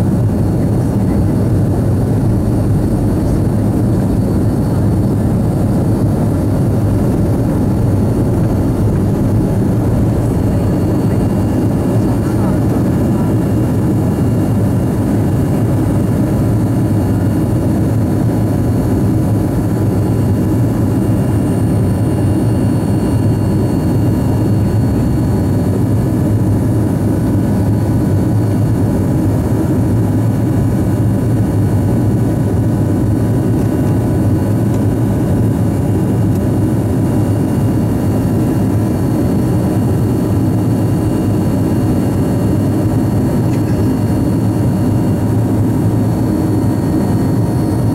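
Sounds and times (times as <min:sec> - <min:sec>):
jet engine roar with whine: 0:00.0 - 0:47.9.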